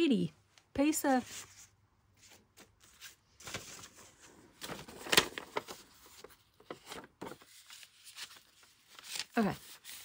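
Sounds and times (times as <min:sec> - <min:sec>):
paper sheets rustling: 0:01.1 - 0:10.0.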